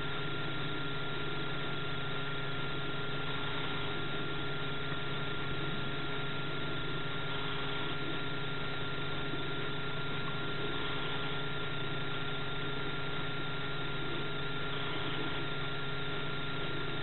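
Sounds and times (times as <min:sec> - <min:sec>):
steady engine-like hum: 0:00.0 - 0:17.0.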